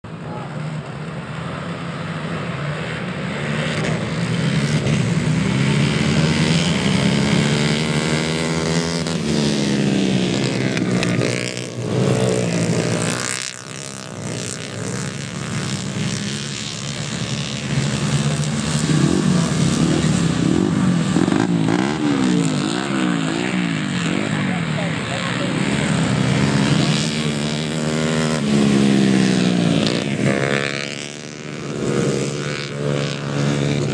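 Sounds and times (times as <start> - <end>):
racing motorcycles at full throttle: 0.0 - 33.9.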